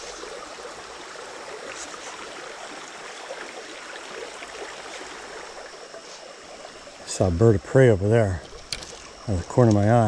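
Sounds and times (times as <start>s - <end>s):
creek trickling: 0.0s - 10.0s.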